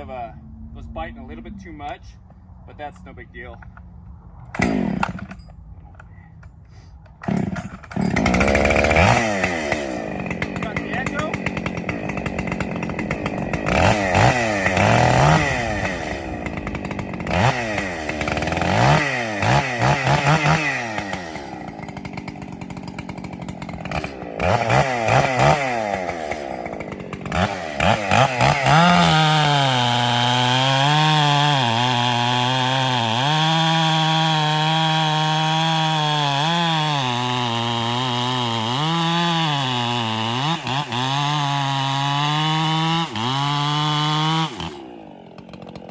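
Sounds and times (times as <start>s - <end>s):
chainsaw revving and cutting wood: 4.5s - 5.5s, 7.1s - 45.9s.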